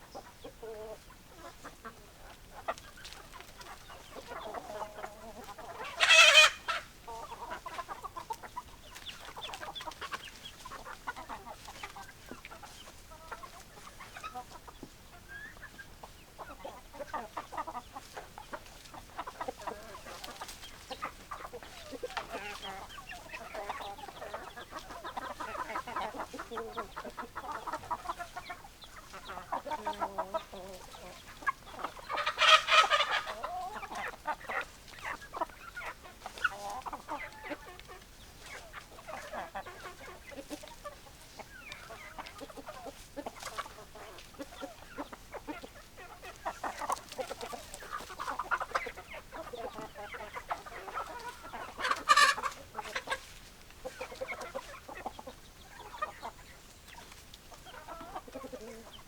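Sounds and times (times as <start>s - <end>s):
chickens clucking: 0.0s - 59.0s
loud chicken calls: 0.0s - 59.0s.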